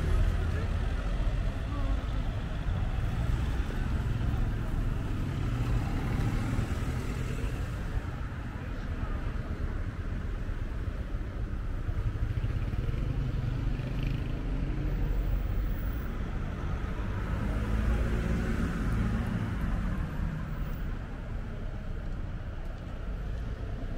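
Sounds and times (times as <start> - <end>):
cars passing: 0.0 - 23.9.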